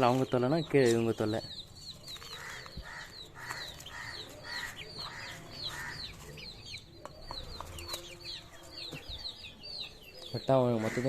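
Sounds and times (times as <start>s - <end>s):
birds chirping: 0.0s - 11.0s
rough low bird calls: 0.0s - 11.0s.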